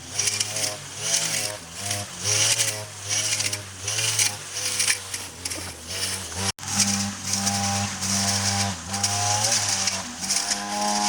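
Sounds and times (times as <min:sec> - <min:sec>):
small engine running at high revs: 0:00.0 - 0:11.0.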